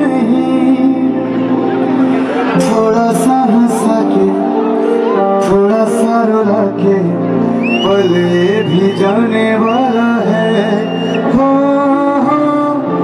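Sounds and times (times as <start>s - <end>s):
keyboard chords: 0.0s - 13.0s
man singing into microphone: 0.0s - 13.0s.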